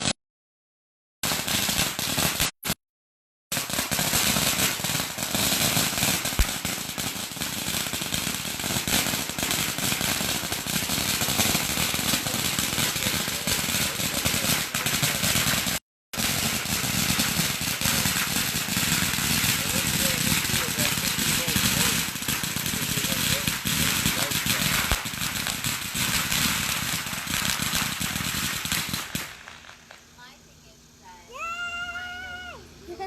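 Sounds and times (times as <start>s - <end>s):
firecrackers popping: 1.2s - 2.8s, 3.5s - 33.0s.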